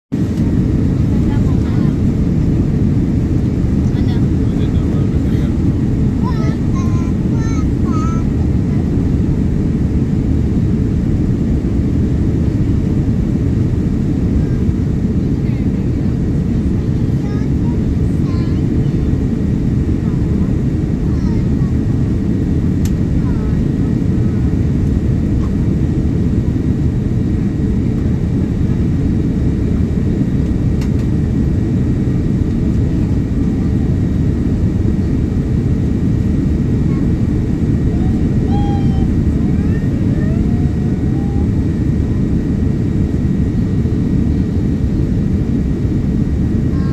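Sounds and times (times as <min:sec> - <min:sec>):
aircraft cabin engine rush: 0:00.1 - 0:46.9.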